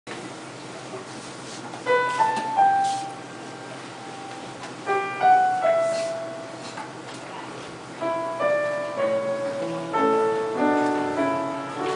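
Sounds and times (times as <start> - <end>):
steady hiss: 0.5 - 11.9
piano notes: 1.8 - 11.9.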